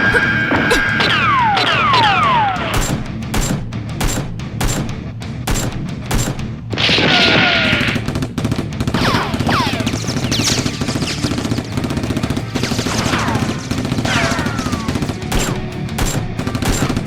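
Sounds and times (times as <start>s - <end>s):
gunshots: 0.0s - 17.0s
rapid automatic gunfire: 1.0s - 17.0s.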